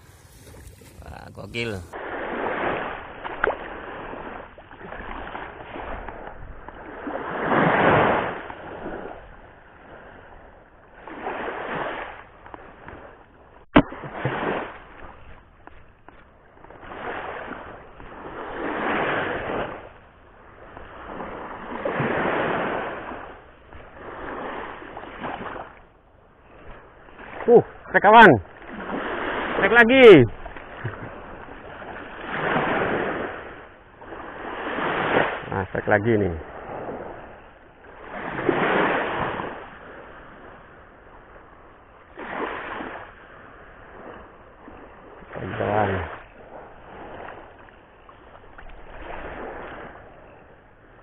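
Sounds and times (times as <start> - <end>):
sea waves washing ashore: 0.0 - 51.0.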